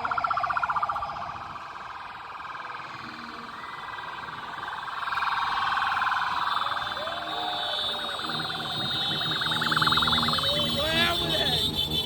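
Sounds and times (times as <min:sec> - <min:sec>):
sirens with rapid warble: 0:00.0 - 0:12.0.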